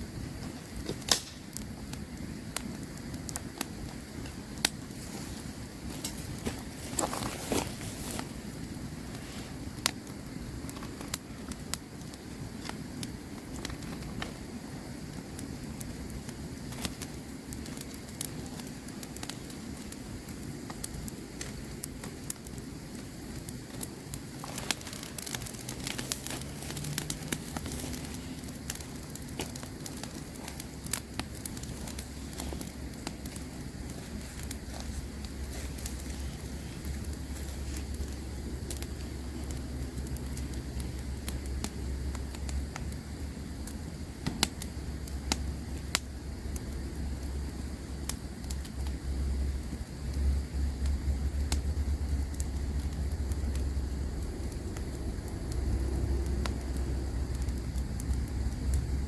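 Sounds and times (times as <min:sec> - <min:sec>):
campfire crackling and popping: 0:00.0 - 0:59.0
steady low rumble: 0:00.0 - 0:59.0.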